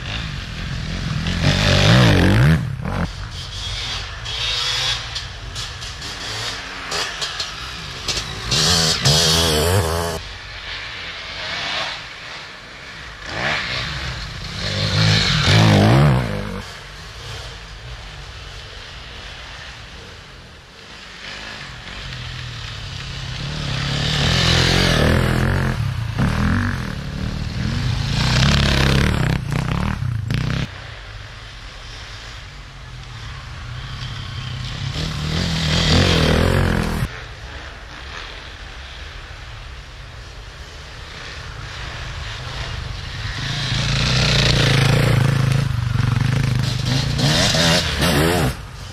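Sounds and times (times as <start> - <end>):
distant engines: 0.0 - 48.9
motorcycles passing: 0.0 - 48.9.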